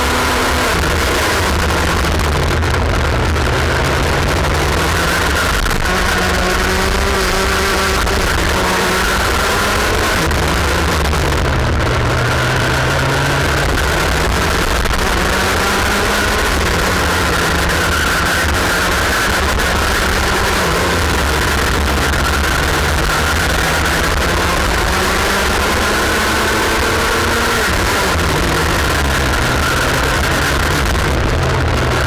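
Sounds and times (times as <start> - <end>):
two-stroke kart engine: 0.0 - 32.0.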